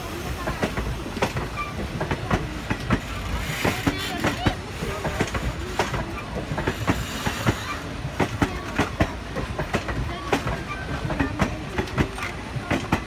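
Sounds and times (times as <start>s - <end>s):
train rumble: 0.0s - 13.0s
wheels clicking over rail joints: 0.4s - 13.0s.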